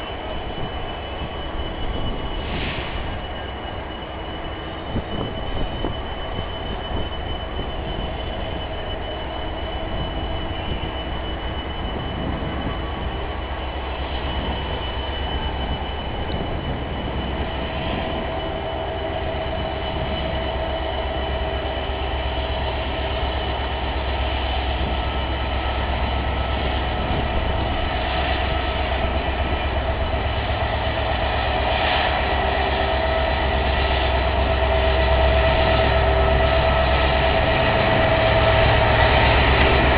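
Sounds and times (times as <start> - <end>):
diesel locomotive engine rumble: 0.0 - 39.9
steady tones: 0.0 - 39.9.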